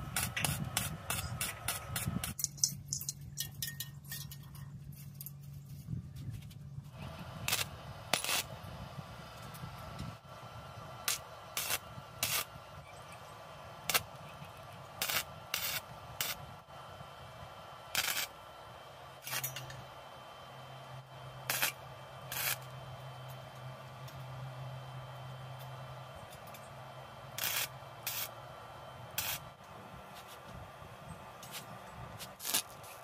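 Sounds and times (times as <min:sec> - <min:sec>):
welding arc bursts: 0:00.0 - 0:02.4, 0:06.9 - 0:20.0, 0:20.8 - 0:24.2, 0:25.0 - 0:33.0.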